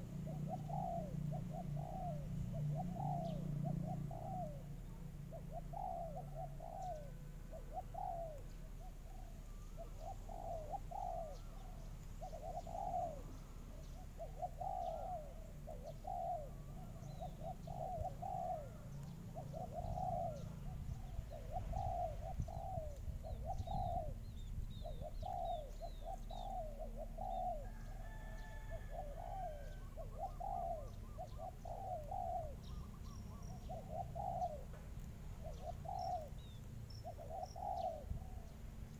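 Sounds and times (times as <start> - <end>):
dove cooing: 0.0 - 38.9
small birds chirping: 0.0 - 38.9.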